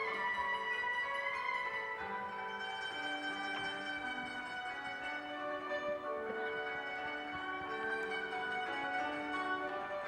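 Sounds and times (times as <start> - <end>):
koto music: 0.0 - 10.0.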